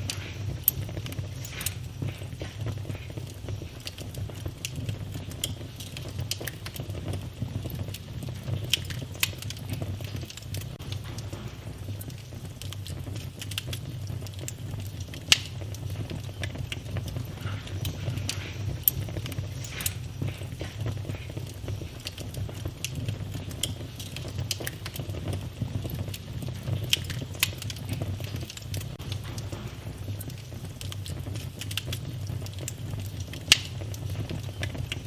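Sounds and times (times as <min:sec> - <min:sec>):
low rumble of fire: 0:00.0 - 0:35.0
sharp pops of fire: 0:00.0 - 0:35.0
wood fire crackling: 0:00.0 - 0:35.0.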